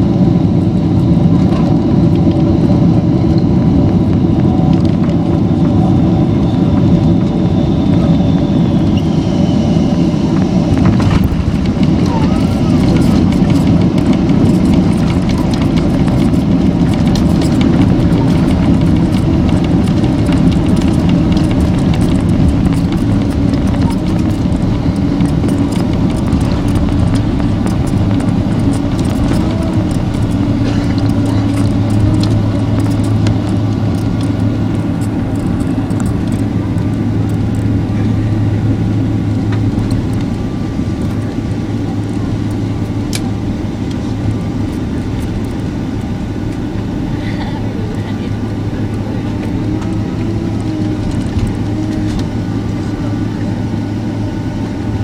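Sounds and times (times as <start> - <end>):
jet engine roar inside cabin: 0.0 - 55.0.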